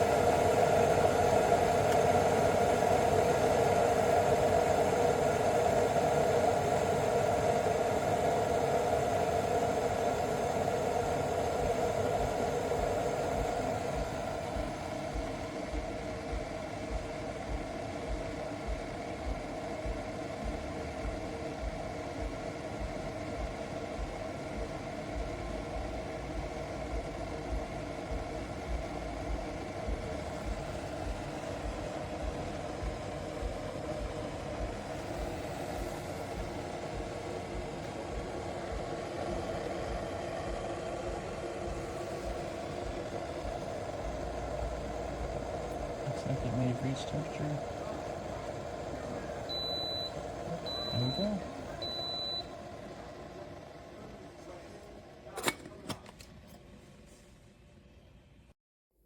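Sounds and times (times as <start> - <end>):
kettle water hissing and rumbling: 0.0 - 58.0.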